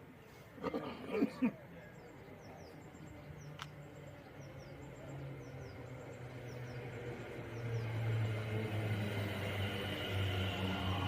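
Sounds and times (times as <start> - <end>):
small birds chirping: 1.7 - 10.7
electric train hum: 1.9 - 11.0.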